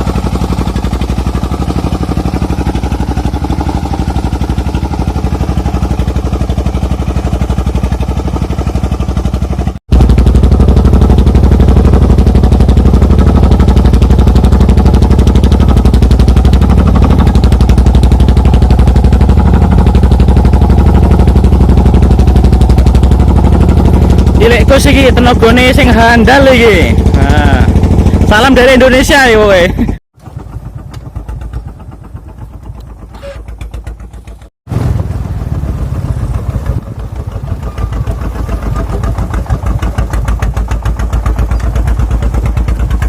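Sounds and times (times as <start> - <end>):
diesel engine chugging: 0.0 - 43.0.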